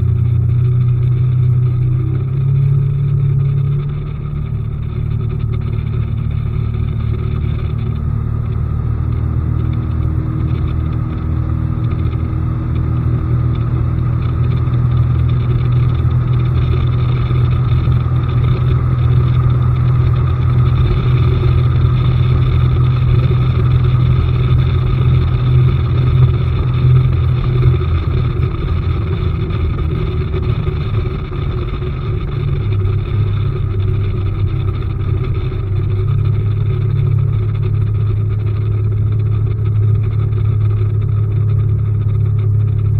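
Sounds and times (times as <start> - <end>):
outboard motor humming: 0.0 - 42.9.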